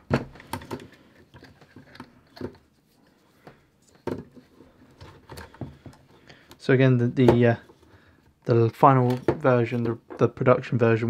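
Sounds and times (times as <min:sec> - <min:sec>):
battery and wires clicking and rustling: 0:00.0 - 0:02.8, 0:03.4 - 0:10.4.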